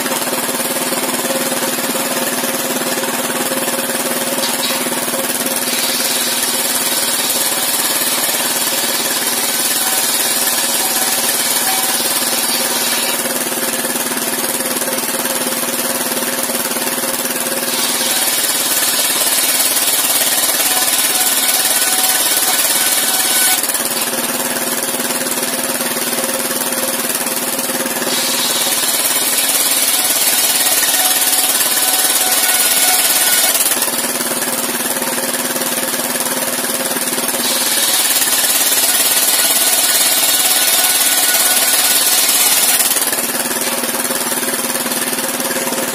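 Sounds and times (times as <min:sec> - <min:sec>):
sawmill engine running: 0:00.0 - 0:45.9
circular saw ripping planks: 0:01.8 - 0:14.8, 0:17.2 - 0:26.1, 0:27.0 - 0:34.8, 0:37.0 - 0:45.9.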